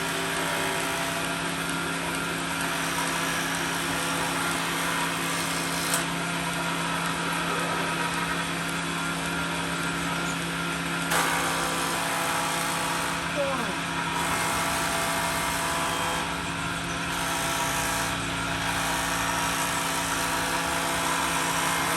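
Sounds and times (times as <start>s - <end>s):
motor humming: 0.0s - 21.9s.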